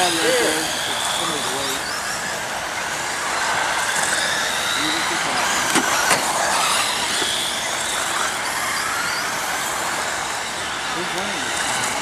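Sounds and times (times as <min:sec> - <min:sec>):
toy truck motors whining: 0:00.0 - 0:12.0.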